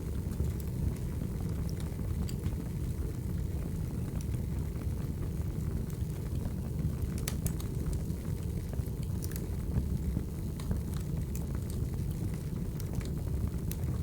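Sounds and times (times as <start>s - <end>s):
firewood crackles and pops: 0.0s - 14.0s
low rumble of flames: 0.0s - 14.0s.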